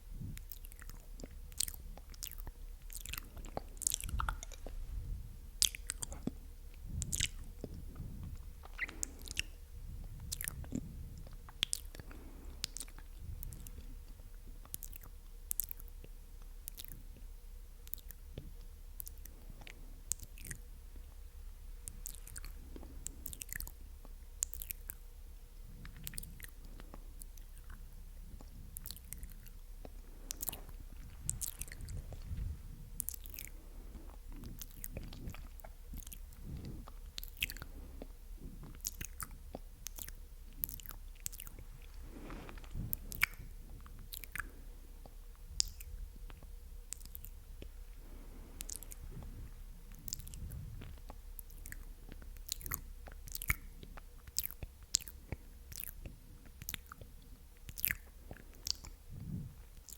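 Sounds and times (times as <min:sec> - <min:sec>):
lip and tongue clicks: 0:00.2 - 0:04.8, 0:05.6 - 0:21.1, 0:21.8 - 0:25.0, 0:25.7 - 0:47.8, 0:48.6 - 0:59.9.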